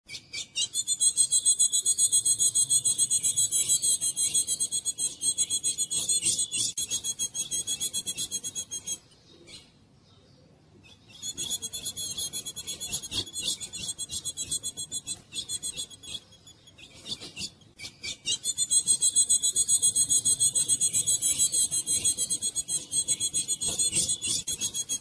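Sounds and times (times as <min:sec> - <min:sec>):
bird chattering call: 0:00.5 - 0:09.0, 0:11.1 - 0:25.0.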